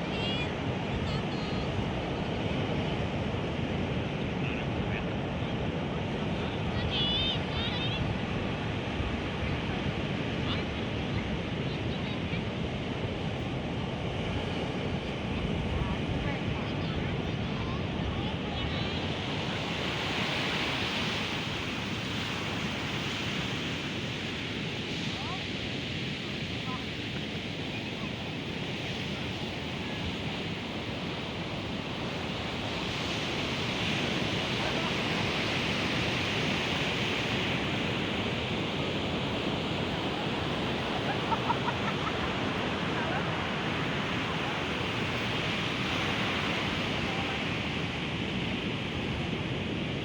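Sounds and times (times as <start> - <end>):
strong wind: 0.0 - 50.0
surf breaking on a beach: 0.0 - 50.0.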